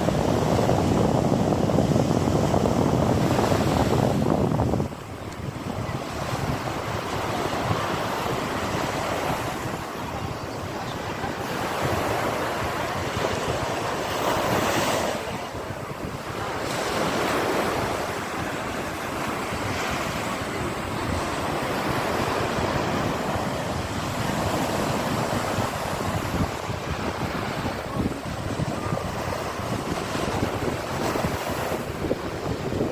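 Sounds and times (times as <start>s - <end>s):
sea waves breaking on shore: 0.0s - 32.9s
wind: 0.0s - 32.9s.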